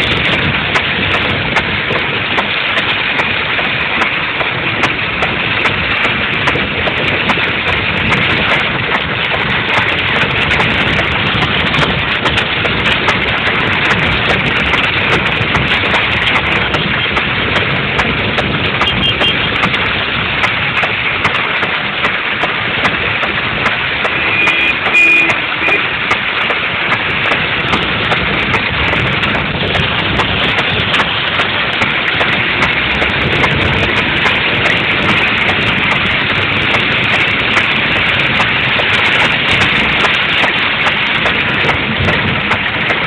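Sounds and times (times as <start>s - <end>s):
rain pattering on car: 0.0s - 43.0s
tyre and road noise: 0.0s - 43.0s.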